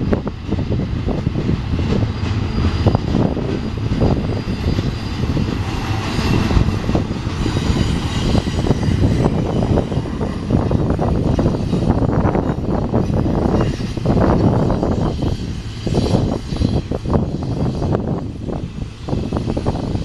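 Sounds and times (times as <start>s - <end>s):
train cars clanking and rattling: 0.0s - 20.0s
train wheels rumbling on rail: 0.0s - 20.0s.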